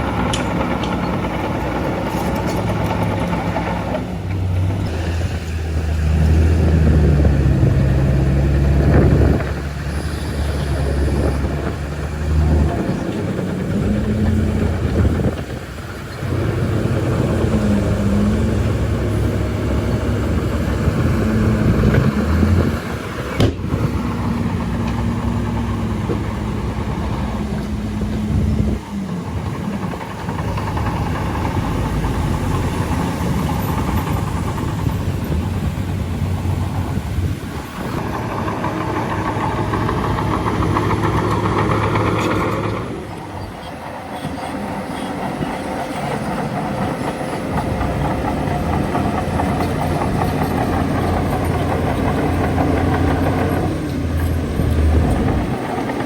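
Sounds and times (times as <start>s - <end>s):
bulldozer diesel engine under load: 0.0s - 56.0s
steel tracks clanking: 0.0s - 56.0s.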